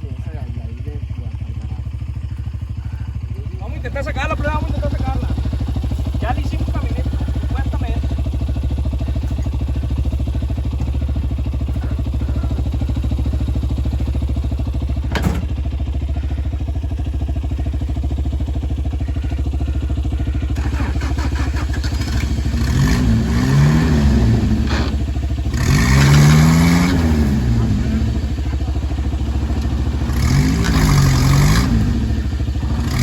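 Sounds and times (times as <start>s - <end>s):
pickup engine idling and revving: 0.0s - 33.0s.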